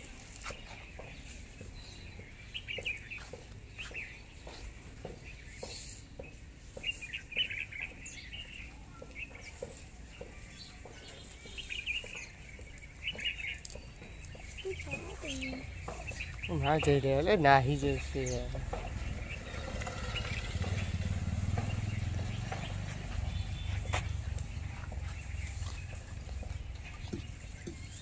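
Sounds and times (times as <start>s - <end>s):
birds twittering: 0.0s - 28.0s.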